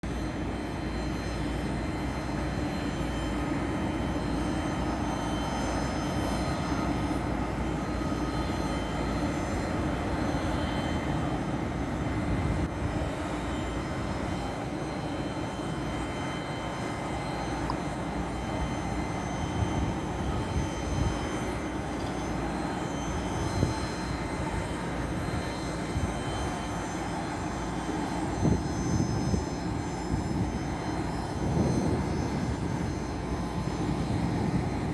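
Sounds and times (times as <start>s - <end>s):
jet engines roaring: 0.0s - 34.9s
thin steady whines: 0.0s - 34.9s.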